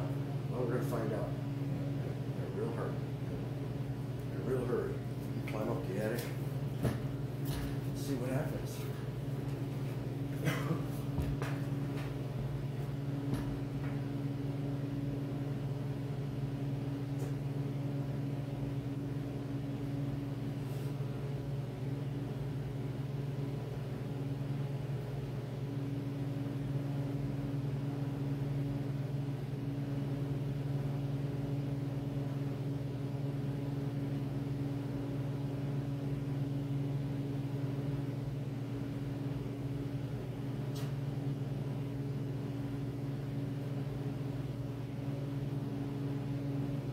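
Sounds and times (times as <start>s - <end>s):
low machine hum: 0.0s - 46.9s.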